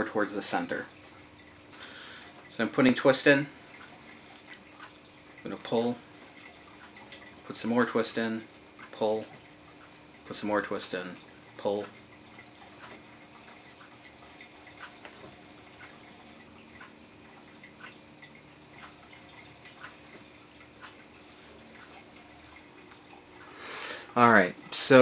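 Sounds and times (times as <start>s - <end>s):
spinner light clicks: 2.4s - 23.2s.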